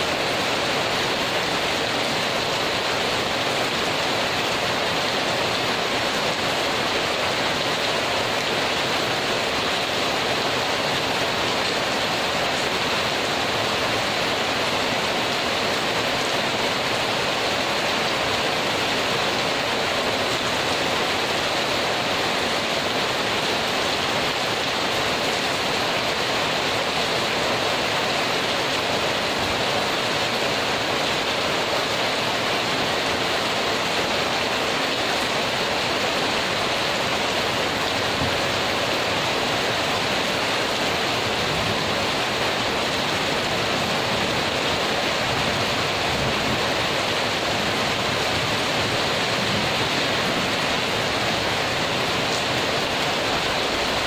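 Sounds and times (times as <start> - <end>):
heavy rain on concrete and metal: 0.0 - 54.0.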